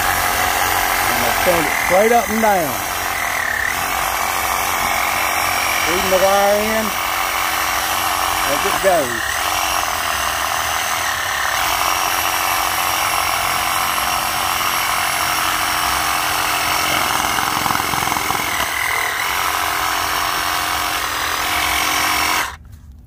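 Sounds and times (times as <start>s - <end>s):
string trimmer running: 0.0s - 22.6s.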